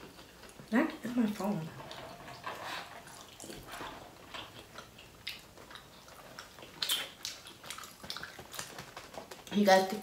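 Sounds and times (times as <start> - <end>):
person chewing food: 0.0 - 0.7, 2.1 - 9.6.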